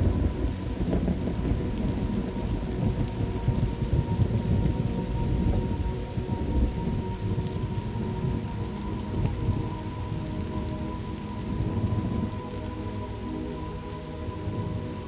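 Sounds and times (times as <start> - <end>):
thunder rumbling: 0.0 - 12.6
steady rain: 0.0 - 15.0.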